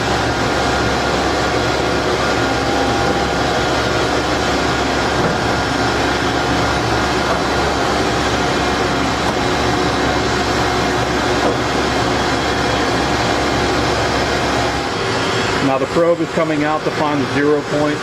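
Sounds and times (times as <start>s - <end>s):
drilling machine hum and whir: 0.0s - 18.0s.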